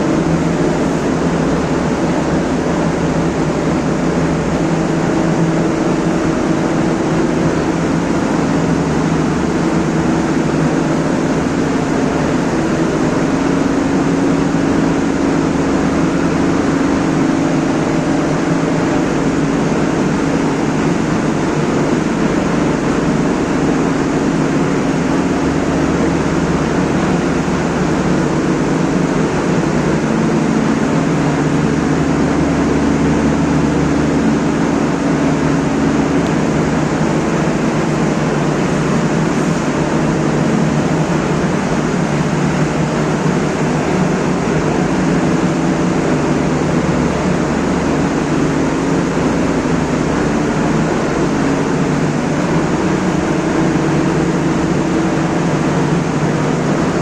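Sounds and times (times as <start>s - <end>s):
loud machine noise with hum: 0.0s - 57.0s.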